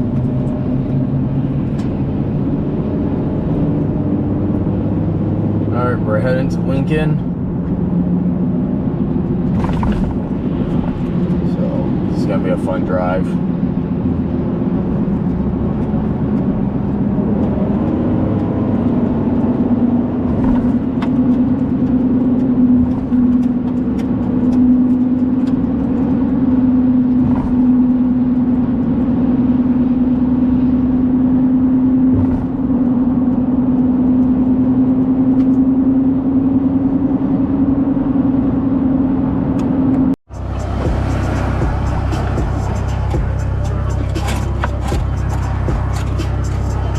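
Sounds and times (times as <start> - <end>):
vehicle engine and road drone: 0.0 - 46.9.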